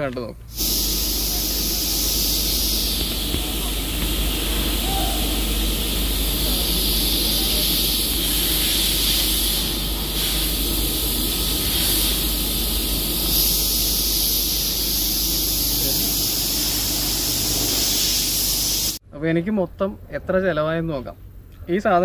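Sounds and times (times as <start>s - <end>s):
steady hiss: 0.4s - 19.0s
low hum: 0.5s - 18.4s.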